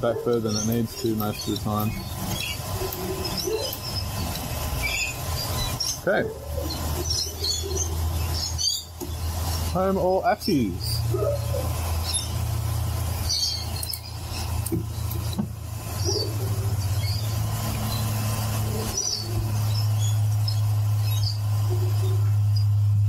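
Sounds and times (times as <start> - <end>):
birds chirping: 0.0 - 22.9
stepper motors humming: 0.0 - 23.0.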